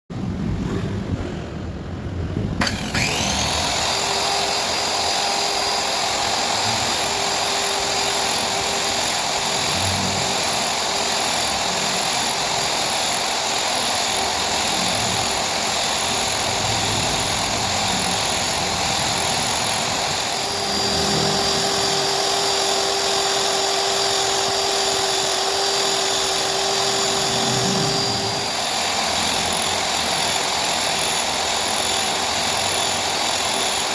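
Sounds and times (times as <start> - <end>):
power tool motor whining: 2.6 - 33.9.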